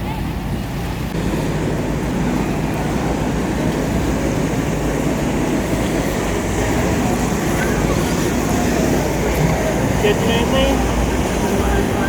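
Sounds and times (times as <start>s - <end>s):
low engine rumble: 0.0s - 12.0s
outdoor noise: 0.0s - 12.0s.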